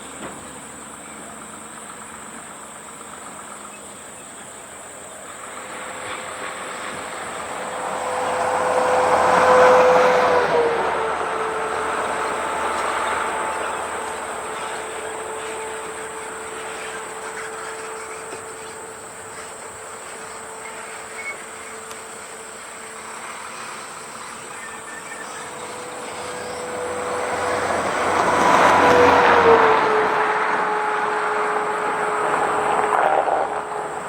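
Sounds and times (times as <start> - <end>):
vehicle humming with tyre noise: 0.0 - 34.0
vehicle passing: 4.4 - 34.0.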